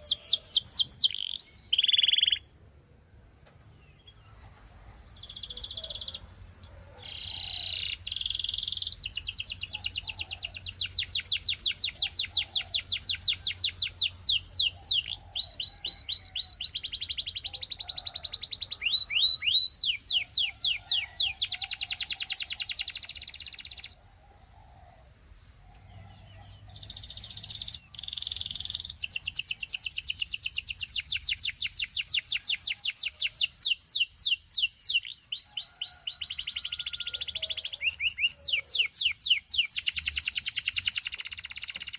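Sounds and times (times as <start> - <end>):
canary singing trills: 0.0 - 2.5, 3.6 - 24.1, 25.6 - 41.9.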